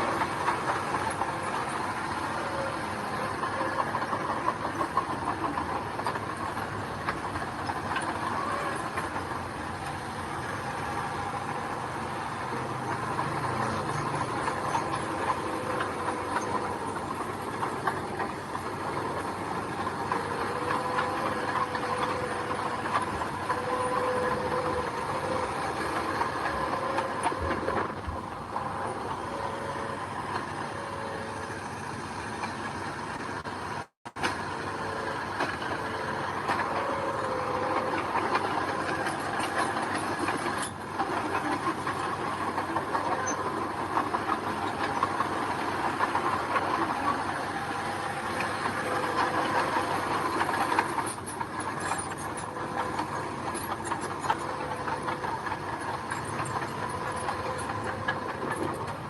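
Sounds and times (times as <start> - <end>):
diesel engine whining: 0.0 - 59.0.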